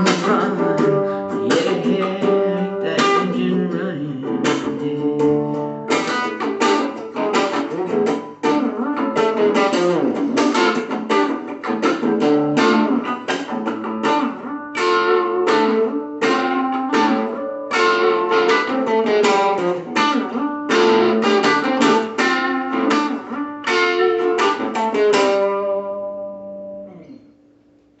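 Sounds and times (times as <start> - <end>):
guitar strumming chords: 0.0 - 28.0.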